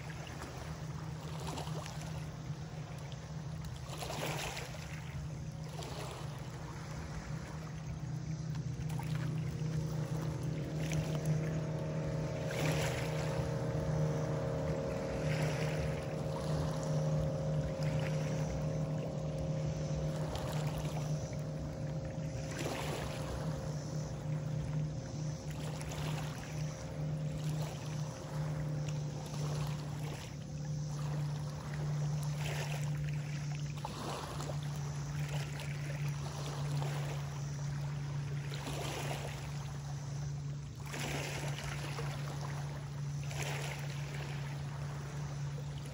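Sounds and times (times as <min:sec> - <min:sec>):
boat engine drone: 0:00.0 - 0:45.9
higher hum: 0:00.0 - 0:45.9.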